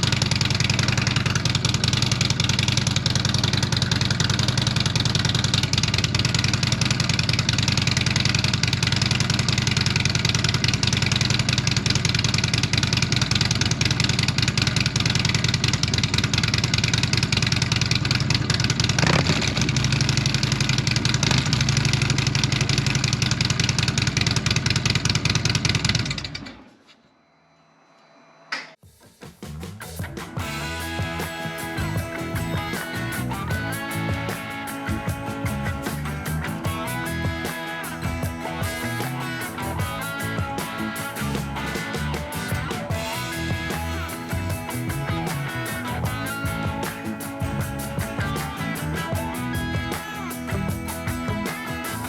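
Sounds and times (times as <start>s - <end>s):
motorcycle engine idling: 0.0s - 26.6s, 29.8s - 52.0s.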